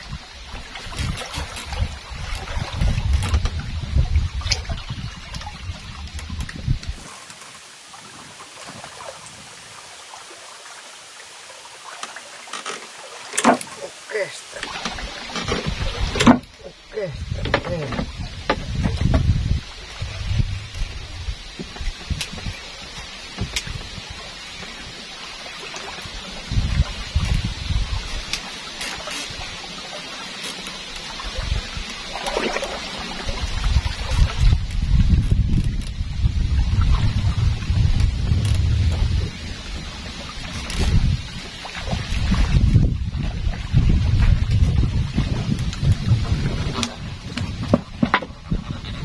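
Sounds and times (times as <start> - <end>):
wind buffeting microphone: 0.0 - 9.8, 14.8 - 24.9, 26.1 - 28.4, 31.3 - 49.0
water lapping against boat hull: 0.0 - 49.0.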